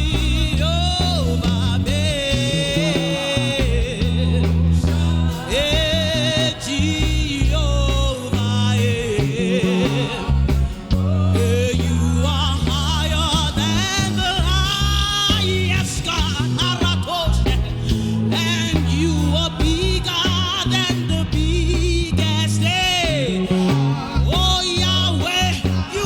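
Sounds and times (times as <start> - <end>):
instrumental backing with deep bass: 0.0 - 26.0
person singing gospel: 0.0 - 26.0.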